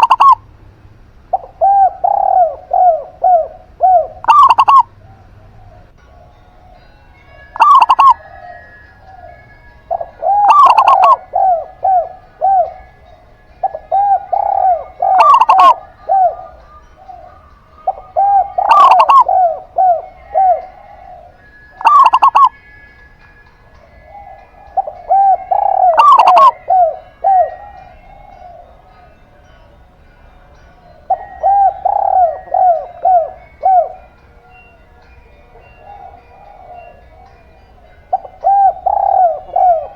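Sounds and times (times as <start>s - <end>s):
doves cooing: 0.0s - 0.5s, 1.3s - 29.8s, 30.5s - 39.9s.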